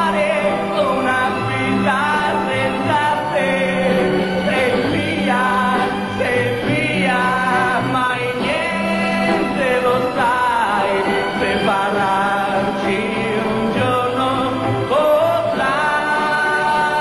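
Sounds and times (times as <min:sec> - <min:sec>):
solo voice singing: 0:00.0 - 0:17.0.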